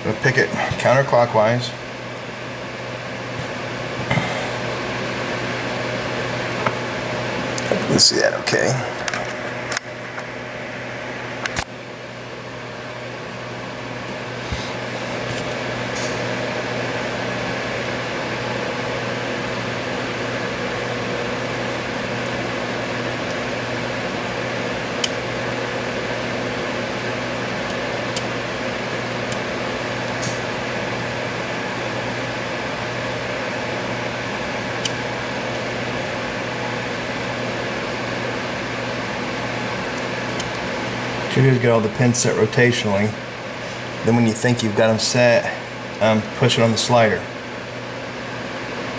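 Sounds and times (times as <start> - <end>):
whirring mechanical hum: 0.0 - 48.9.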